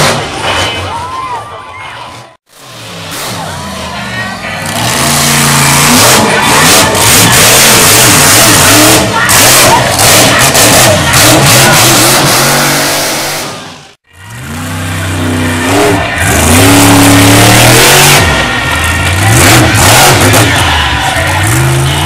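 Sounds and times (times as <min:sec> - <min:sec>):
monster truck engines revving: 0:00.0 - 0:22.0.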